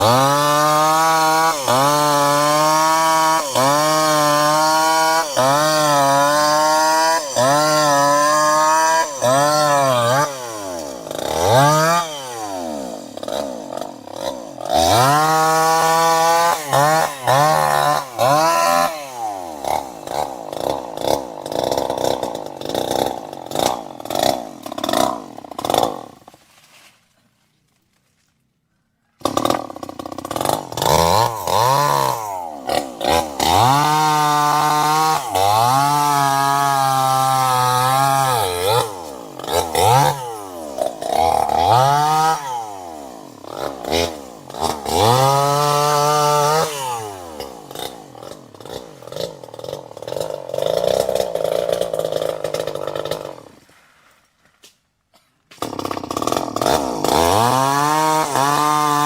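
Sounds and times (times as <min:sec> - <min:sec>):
chainsaw engine revving: 0:00.0 - 0:26.4, 0:29.2 - 0:54.2, 0:55.5 - 0:59.0.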